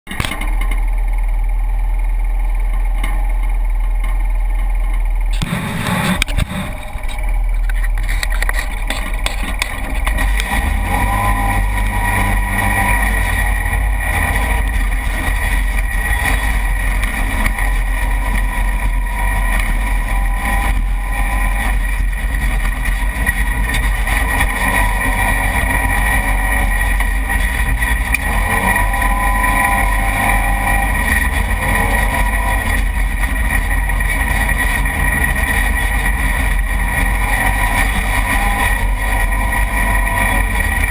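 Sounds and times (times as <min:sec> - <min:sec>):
utility vehicle engine droning: 0:00.1 - 0:40.9.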